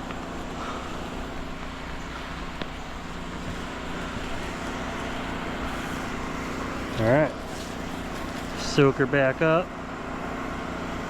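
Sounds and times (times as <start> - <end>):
generator and pump humming: 0.0 - 11.0.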